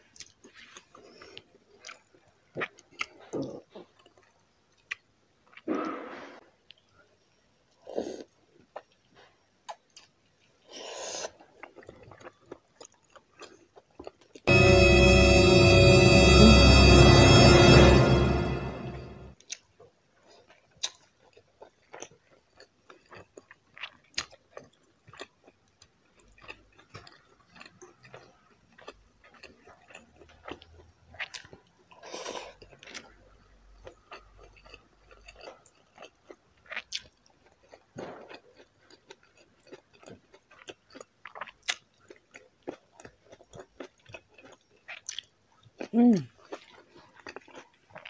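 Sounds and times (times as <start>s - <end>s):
person chewing food: 0.1s - 5.7s, 7.8s - 14.4s, 19.4s - 48.0s.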